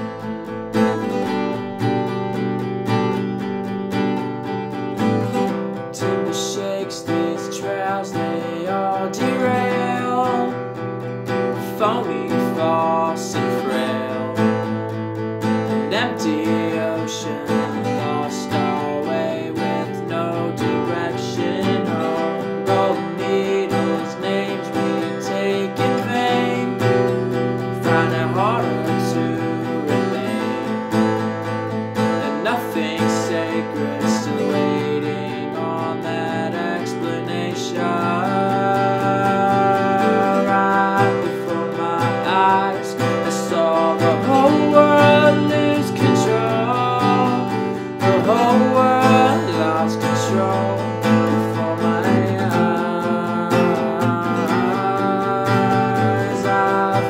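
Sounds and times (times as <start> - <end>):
man singing: 0.0 - 3.3, 4.9 - 57.0
acoustic guitar strumming: 0.0 - 57.0.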